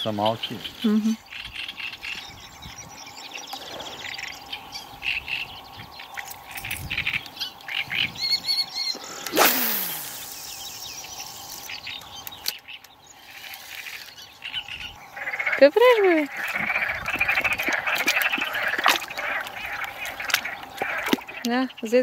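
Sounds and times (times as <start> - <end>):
frogs calling: 0.0 - 22.0
small birds chirping: 0.0 - 22.0.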